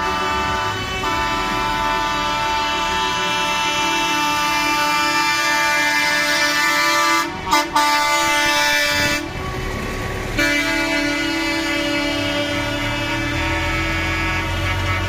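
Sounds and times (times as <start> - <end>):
truck air horns: 0.0 - 9.4, 10.2 - 15.0
engine and tyre noise: 0.0 - 15.0.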